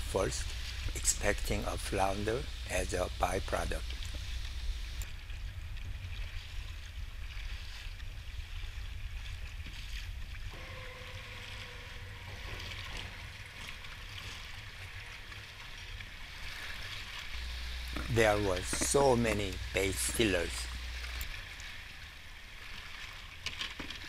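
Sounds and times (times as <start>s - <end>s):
wind rumble on microphone: 0.0s - 22.0s
water lapping against kayak hull: 0.0s - 24.0s.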